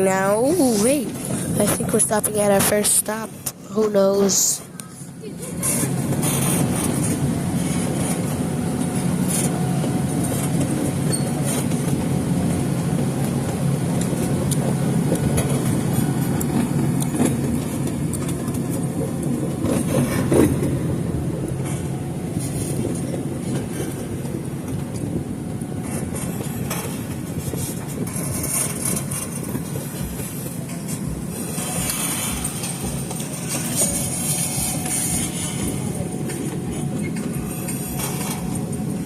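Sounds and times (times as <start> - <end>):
train rumble from on board: 0.0 - 39.0.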